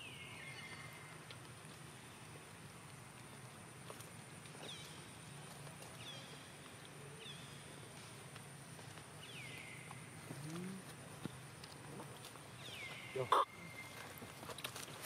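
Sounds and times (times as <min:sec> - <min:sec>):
faint steady high whine: 0:00.0 - 0:15.0.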